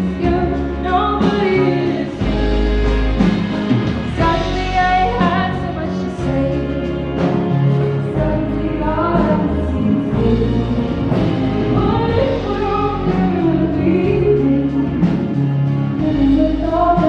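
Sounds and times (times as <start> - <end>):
person singing: 0.0 - 3.0, 4.1 - 17.0
band playing: 0.0 - 17.0.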